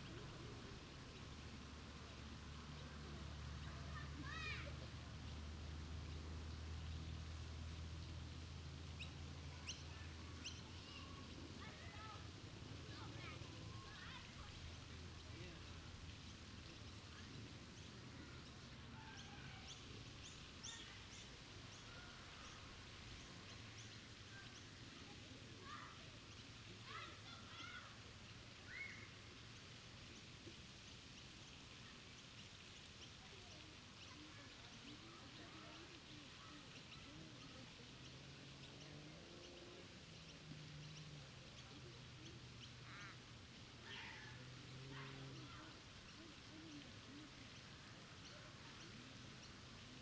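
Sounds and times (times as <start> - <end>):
distant people's voices: 0.0 - 50.0
small birds chirping: 0.0 - 50.0
water fountain hiss: 0.0 - 50.0.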